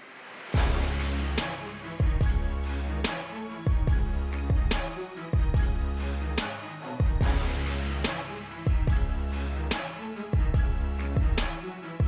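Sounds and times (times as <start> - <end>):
music with steady beat: 0.6 - 12.0.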